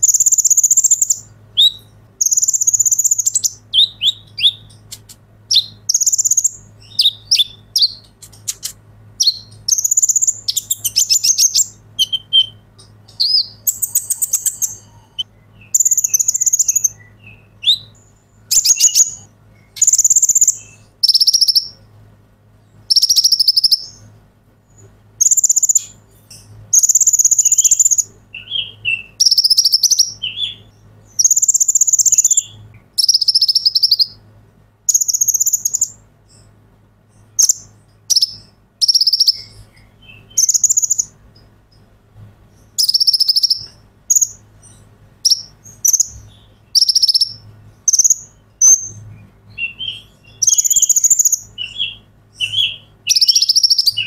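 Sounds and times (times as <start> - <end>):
sharp bird chirps: 0.0 - 21.9, 22.7 - 24.1, 24.7 - 34.2, 34.9 - 41.9, 42.5 - 54.0
bird trilling song: 0.0 - 22.0, 22.6 - 34.3, 34.9 - 41.9, 42.5 - 54.0.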